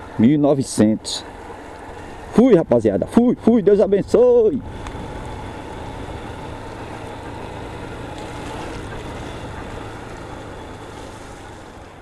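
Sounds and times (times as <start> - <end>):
motorcycle engine low speed: 0.0 - 12.0.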